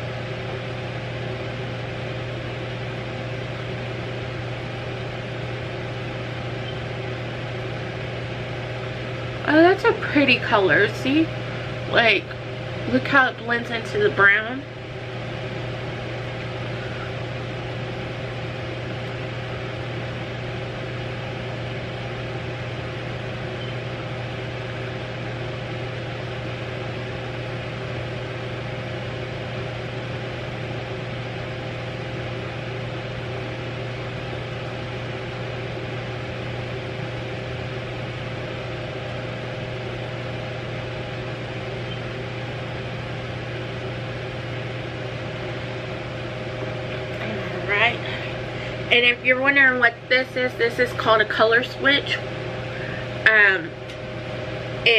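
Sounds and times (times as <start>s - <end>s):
electric fan whirring: 0.0s - 54.9s.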